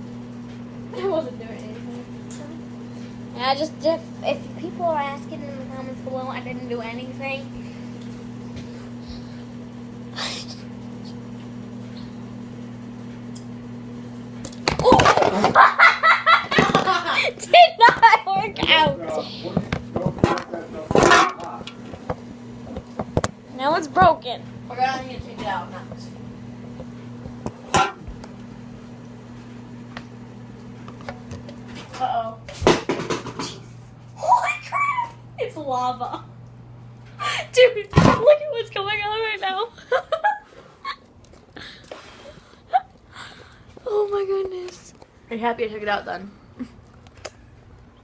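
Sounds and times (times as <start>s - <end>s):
microwave oven humming: 0.0s - 48.0s.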